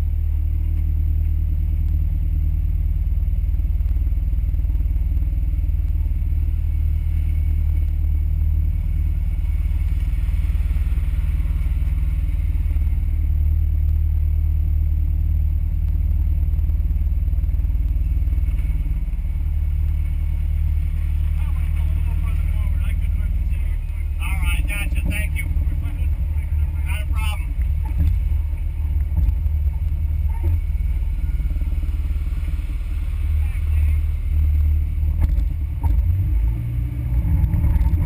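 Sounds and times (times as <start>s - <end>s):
off-road vehicle engine idling: 0.0s - 38.0s.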